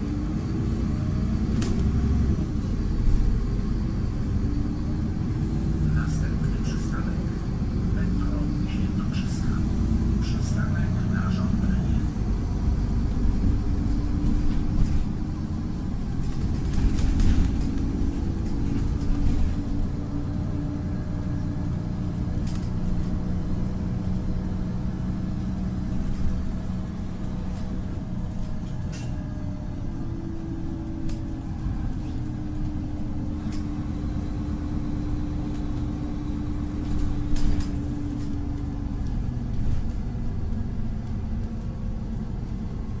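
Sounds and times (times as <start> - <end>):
tram wheels rumbling on rails: 0.0 - 43.0.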